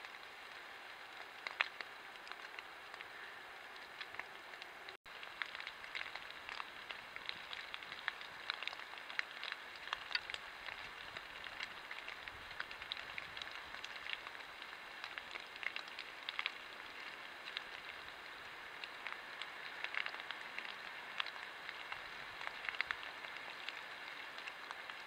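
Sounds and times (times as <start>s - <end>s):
steady hiss: 0.0s - 25.0s
water drops pattering on leaves: 0.0s - 25.0s.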